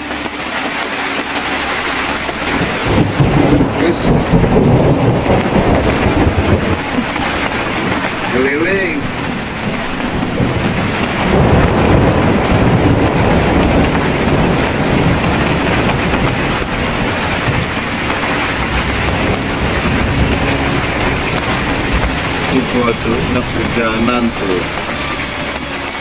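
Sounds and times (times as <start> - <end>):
deep low rumble: 0.0 - 26.0
heavy rain pouring: 0.0 - 26.0.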